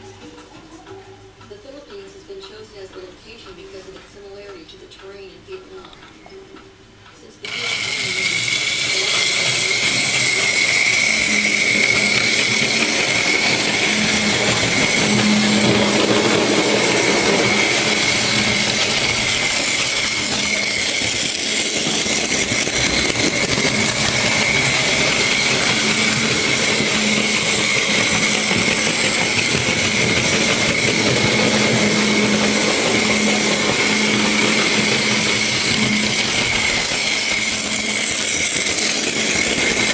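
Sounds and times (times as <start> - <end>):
model train electric motor whining: 7.4 - 39.9.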